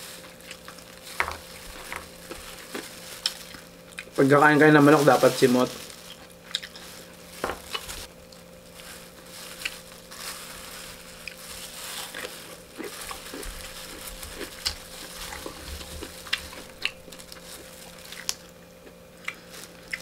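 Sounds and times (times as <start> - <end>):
plastic glove crinkling: 0.0 - 20.0.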